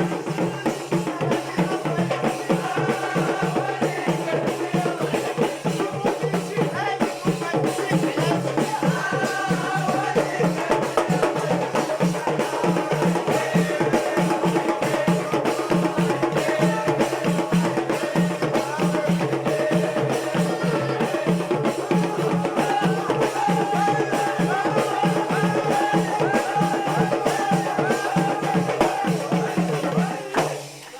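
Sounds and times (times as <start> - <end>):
hand drums and percussion: 0.0 - 30.9
man singing: 0.0 - 30.9.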